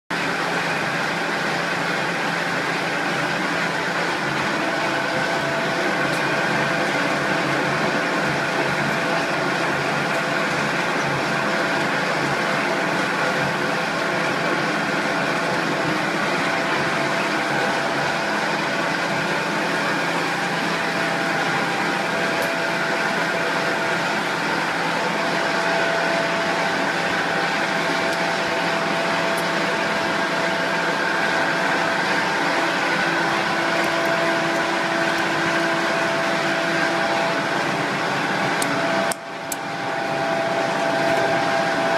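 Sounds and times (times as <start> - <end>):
recycling machinery running: 0.1 - 41.9.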